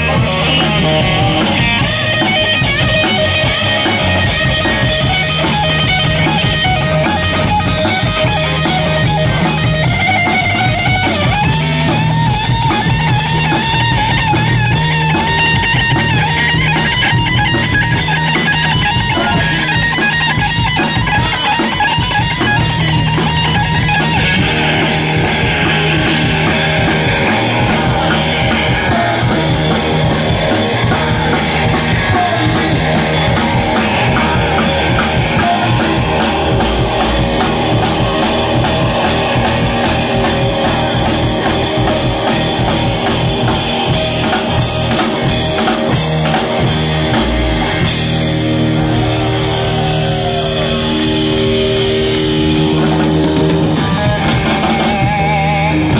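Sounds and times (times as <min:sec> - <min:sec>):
bass guitar: 0:00.0 - 0:55.9
drum kit: 0:00.0 - 0:55.9
electric guitar lead: 0:00.0 - 0:55.9.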